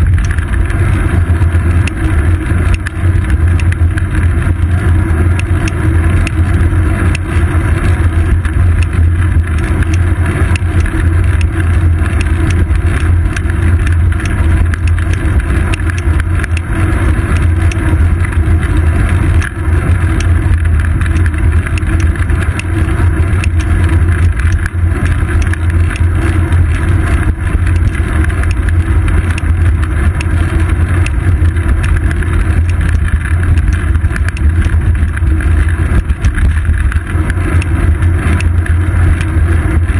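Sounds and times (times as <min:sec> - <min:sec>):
camera mount ticks and rattles: 0:00.0 - 0:00.8, 0:01.8 - 0:39.9
low rumble of road vibration: 0:00.0 - 0:39.9
wind on microphone: 0:00.0 - 0:39.9.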